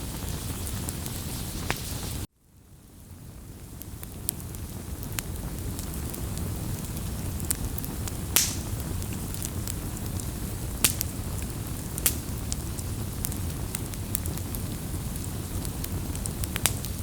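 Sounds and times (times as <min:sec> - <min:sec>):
wood fire rumbling: 0:00.0 - 0:02.3, 0:03.0 - 0:17.0
fire crackles and pops: 0:00.0 - 0:17.0.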